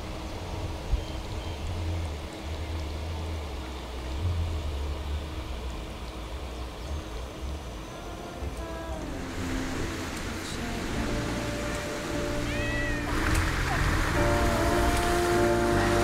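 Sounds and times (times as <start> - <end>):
rushing wind hiss: 0.0 - 16.0
wind buffeting microphone: 0.0 - 16.0.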